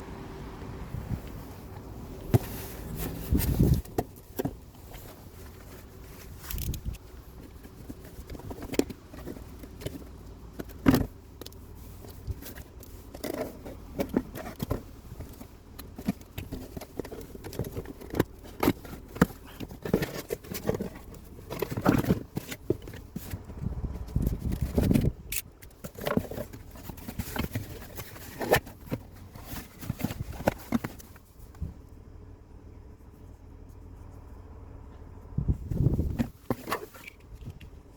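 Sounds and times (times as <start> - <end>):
hand tools clicking and scraping: 2.2 - 31.6, 36.0 - 37.8.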